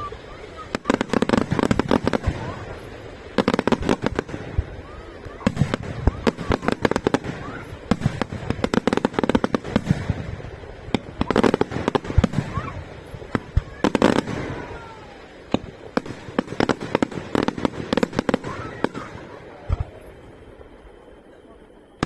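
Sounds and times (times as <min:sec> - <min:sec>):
faint falling whistles: 0:00.0 - 0:22.0
fireworks bangs and crackling: 0:00.0 - 0:22.0.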